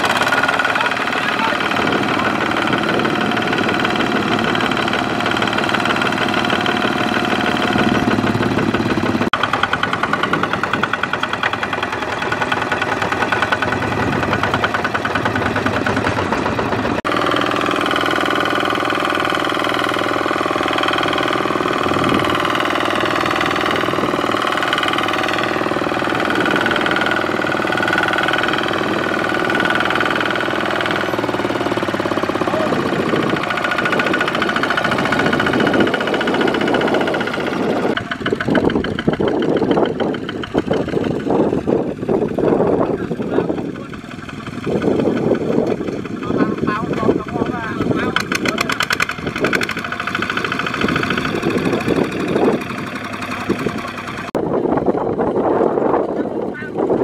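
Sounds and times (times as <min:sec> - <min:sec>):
diesel engine labouring: 0:00.0 - 0:57.0.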